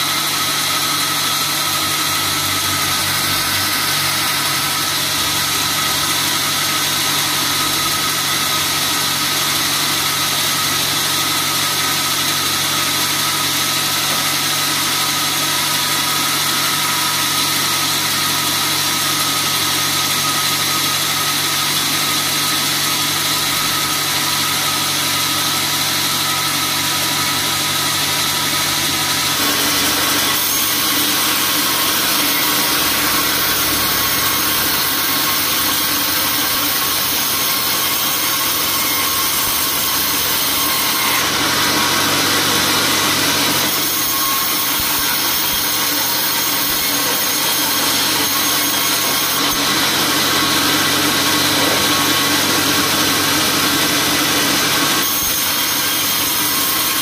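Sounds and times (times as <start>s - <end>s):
band saw machine hum: 0.0s - 57.0s.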